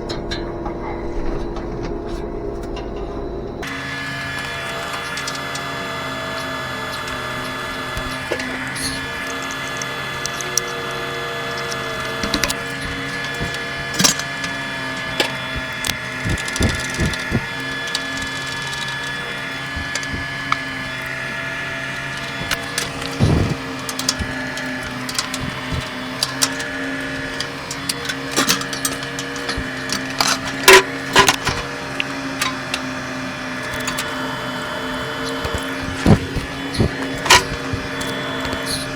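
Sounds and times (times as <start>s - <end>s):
hvac equipment humming: 0.0s - 38.9s
metal panels and tools clattering: 0.0s - 38.9s.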